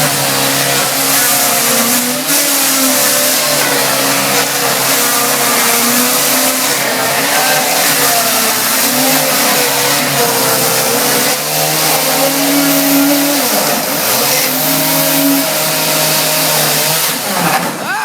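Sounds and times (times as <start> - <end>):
chainsaw cutting furniture: 0.0 - 18.0.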